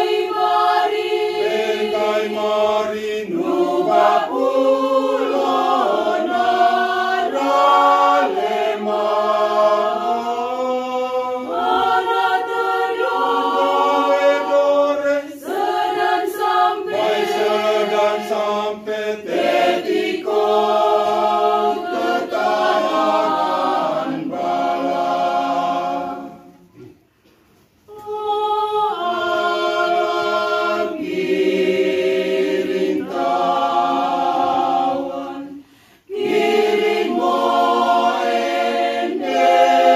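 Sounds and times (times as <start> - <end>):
mixed choir singing a hymn: 0.0 - 27.0, 27.9 - 39.9.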